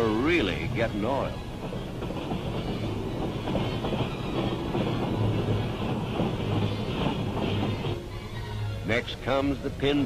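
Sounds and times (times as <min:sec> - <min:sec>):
freight cars rolling on rails: 0:00.0 - 0:10.0.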